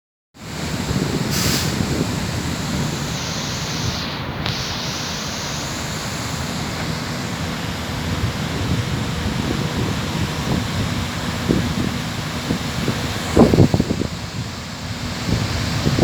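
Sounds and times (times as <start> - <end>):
surf breaking on beach: 0.4 - 16.0
wind buffeting microphone: 0.4 - 16.0.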